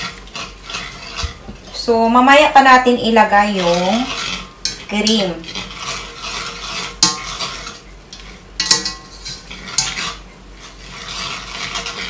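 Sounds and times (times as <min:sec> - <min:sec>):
spatula scraping metal pot: 0:00.0 - 0:12.0.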